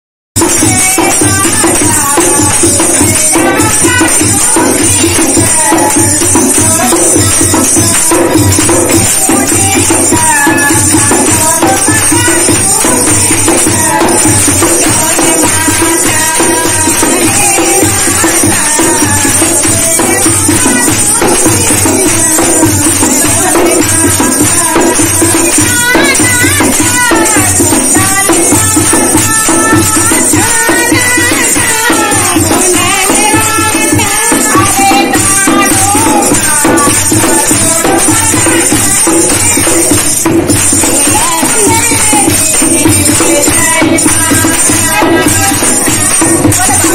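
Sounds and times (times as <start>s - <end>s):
hand drum beat: 0.4s - 46.9s
jingling hand percussion: 0.4s - 46.9s
women singing in unison: 0.4s - 46.9s.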